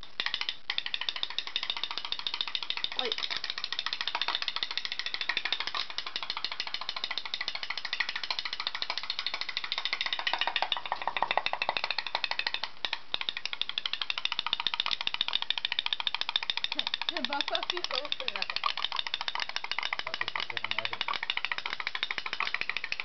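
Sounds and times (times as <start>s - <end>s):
pop-pop boat engine clicking: 0.0s - 23.0s.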